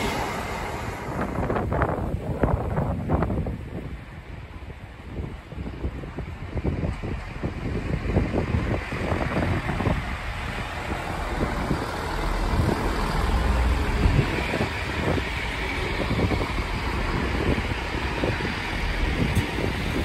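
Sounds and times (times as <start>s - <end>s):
diesel train rumbling past: 0.0s - 20.0s.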